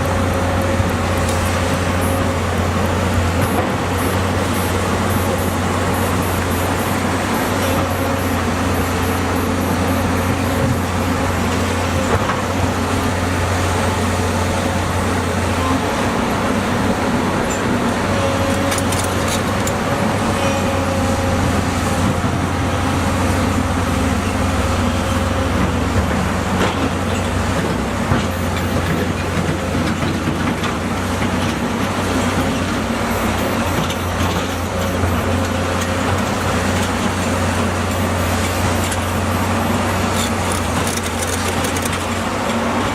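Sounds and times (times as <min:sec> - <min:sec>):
diesel engine droning under load: 0:00.0 - 0:42.9.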